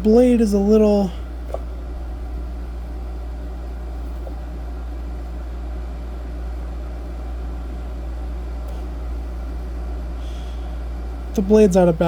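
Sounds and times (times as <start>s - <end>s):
desk fan humming: 0.0s - 12.0s.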